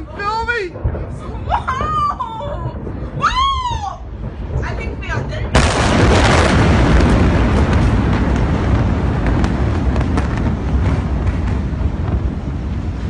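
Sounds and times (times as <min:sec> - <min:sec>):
large explosion rumbling: 0:00.0 - 0:13.0.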